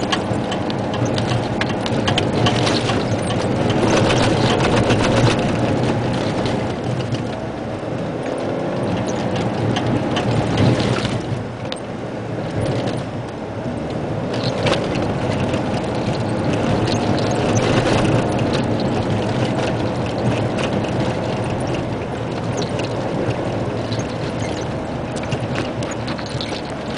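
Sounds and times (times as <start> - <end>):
diesel engine running: 0.0 - 26.9
truck rattling and clicking: 0.0 - 26.9.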